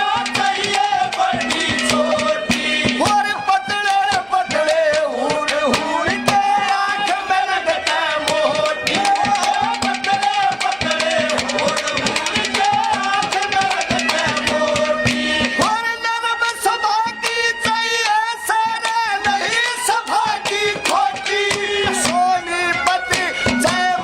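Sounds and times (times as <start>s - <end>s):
hand drum beat: 0.0s - 15.8s, 16.9s - 24.0s.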